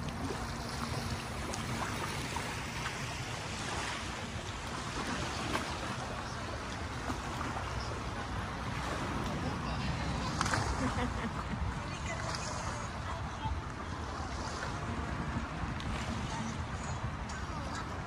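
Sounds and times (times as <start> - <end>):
small waves lapping on shore: 0.0 - 18.0.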